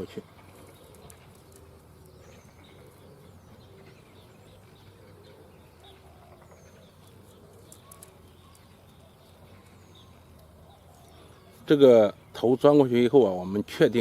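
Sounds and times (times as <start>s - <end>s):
low background hum: 0.0s - 12.4s
birds chirping: 0.0s - 14.0s.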